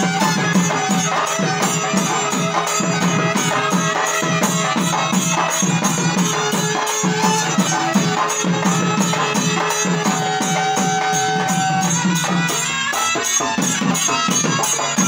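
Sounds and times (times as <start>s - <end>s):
barrel drums beating: 0.0s - 15.0s
held pitched note: 0.0s - 15.0s.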